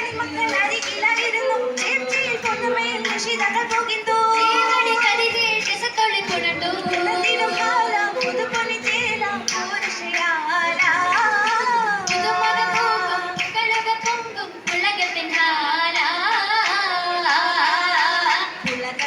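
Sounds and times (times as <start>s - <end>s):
girls singing in unison: 0.0s - 19.0s
rhythmic hand clapping: 0.0s - 19.0s.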